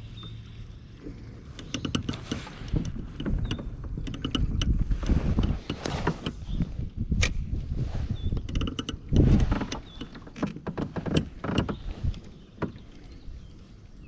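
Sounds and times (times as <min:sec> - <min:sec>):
gear knocking and rubbing: 0:00.2 - 0:14.0.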